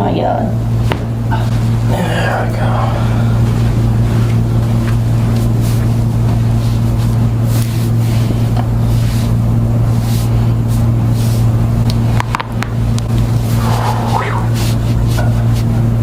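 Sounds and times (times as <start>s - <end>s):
loud low hum: 0.0s - 7.4s, 8.0s - 16.0s.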